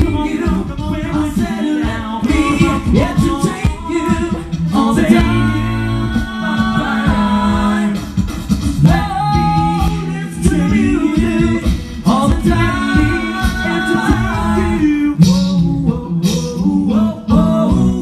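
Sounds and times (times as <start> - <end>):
men singing in harmony: 0.0 - 18.0
sung bass line: 0.0 - 18.0.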